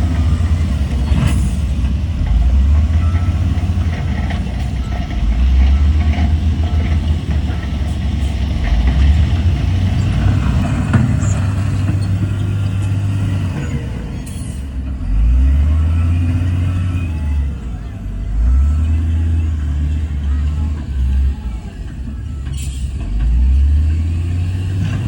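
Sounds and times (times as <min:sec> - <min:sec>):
heavy diesel engine rumbling: 0:00.0 - 0:25.0.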